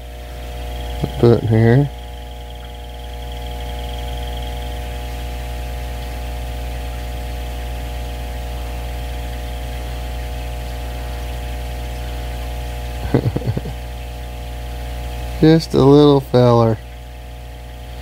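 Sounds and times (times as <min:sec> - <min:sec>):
aquarium equipment humming: 0:00.0 - 0:18.0.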